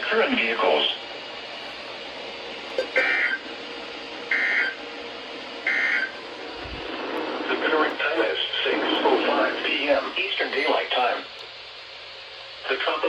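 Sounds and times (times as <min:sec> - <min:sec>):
radio hiss: 0:00.0 - 0:01.1, 0:02.7 - 0:11.6, 0:12.4 - 0:13.0.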